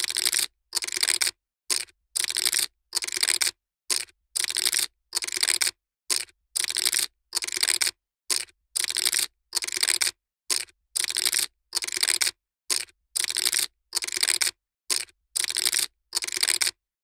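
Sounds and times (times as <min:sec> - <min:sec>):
poker chips shuffling: 0:00.0 - 0:16.8.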